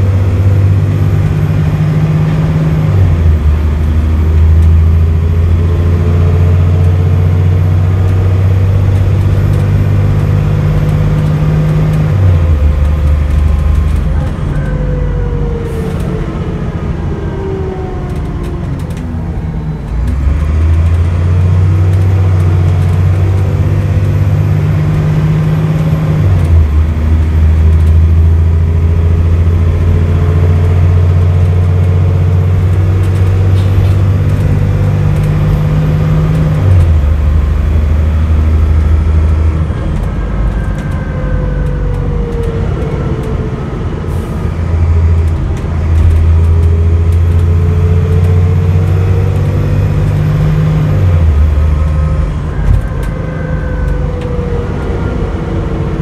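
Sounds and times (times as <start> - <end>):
bus diesel engine droning: 0.0 - 56.0
engine whine: 0.0 - 56.0.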